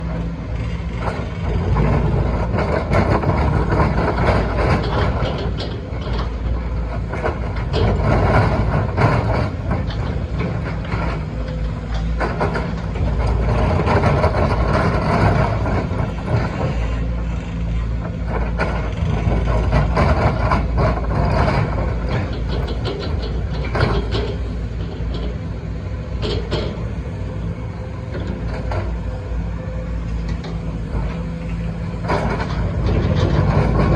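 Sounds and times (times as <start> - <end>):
excavator diesel engine under load: 0.0 - 33.9
knocks and clanks: 0.8 - 17.1, 17.9 - 27.4, 30.0 - 33.9.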